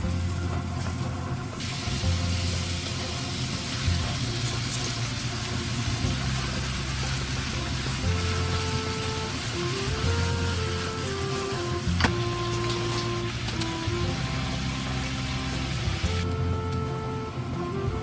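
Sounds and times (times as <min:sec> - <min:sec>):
steady hiss: 0:00.0 - 0:17.5
background music with bass line: 0:00.0 - 0:18.0.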